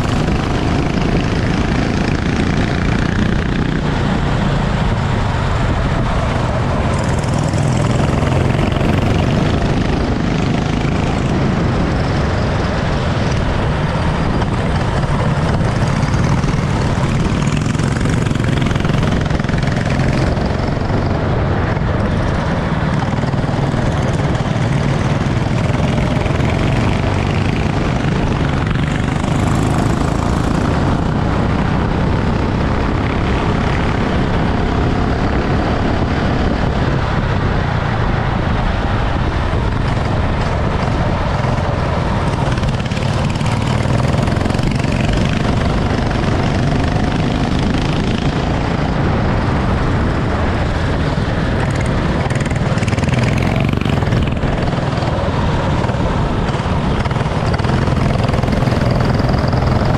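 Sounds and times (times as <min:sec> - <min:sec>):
constant rushing noise: 0:00.0 - 0:59.9
go-kart engine buzzing: 0:00.0 - 0:59.9.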